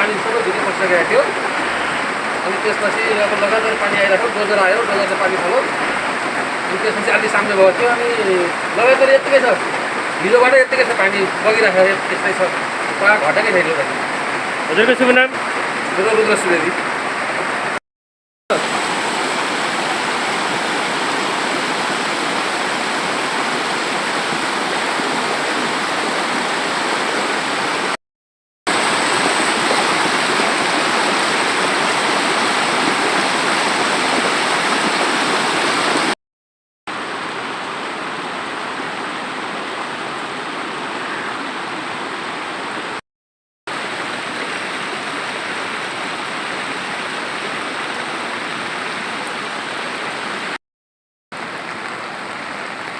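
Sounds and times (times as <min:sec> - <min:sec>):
floodwater rushing: 0:00.0 - 0:17.8, 0:18.5 - 0:28.0, 0:28.7 - 0:36.2, 0:36.9 - 0:43.0, 0:43.7 - 0:50.6, 0:51.3 - 0:52.9.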